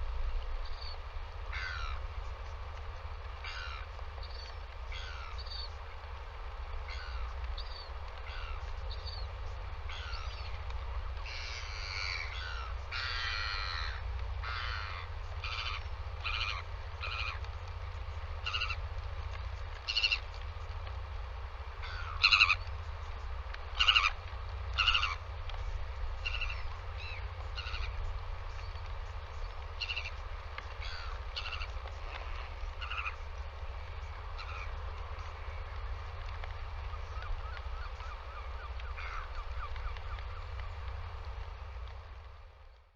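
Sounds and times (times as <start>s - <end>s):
steady low rumble: 0.0s - 42.9s
birds calling with harsh cries: 0.6s - 6.0s, 6.8s - 21.0s, 21.6s - 41.1s.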